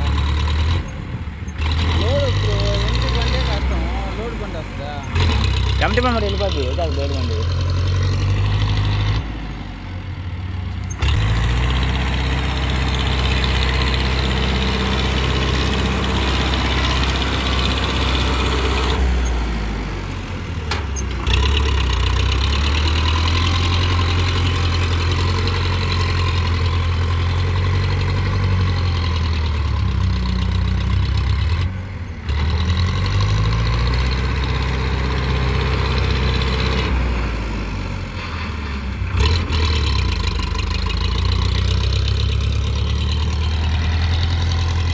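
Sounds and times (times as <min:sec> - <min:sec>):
tractor diesel engine revving: 0:00.0 - 0:44.9.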